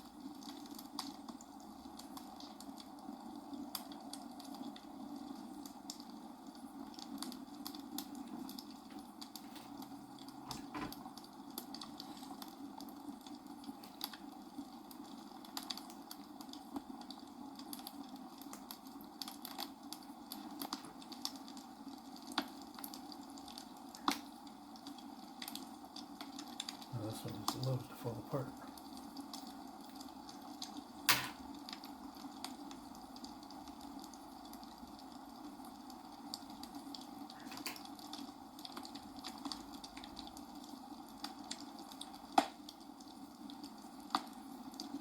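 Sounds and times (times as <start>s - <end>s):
steady background hiss: 0.0s - 45.0s.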